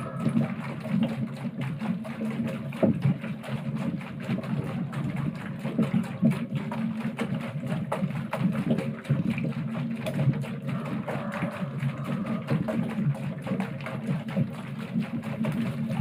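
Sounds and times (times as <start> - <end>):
ticks and rattles of spinning wheel: 0.0 - 16.0.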